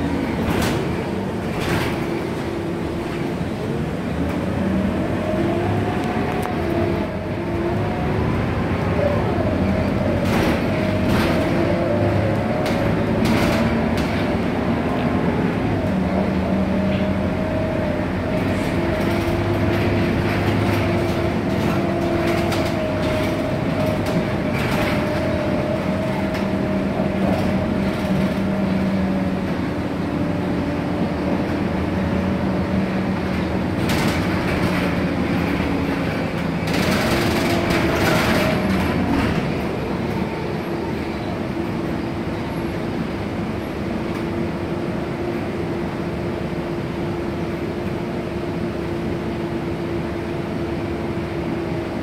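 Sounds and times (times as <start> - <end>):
bus engine droning with whine: 0.0 - 52.0.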